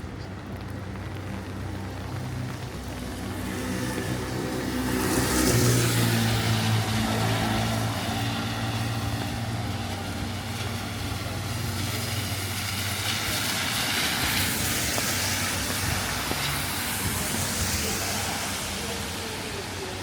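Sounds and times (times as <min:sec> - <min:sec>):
tyres hissing on wet road: 0:00.0 - 0:20.0.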